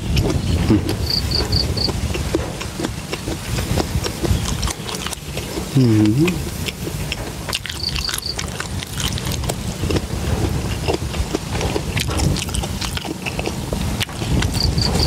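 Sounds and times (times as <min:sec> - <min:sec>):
low rumble: 0:00.0 - 0:15.0
person chewing food: 0:00.0 - 0:15.0.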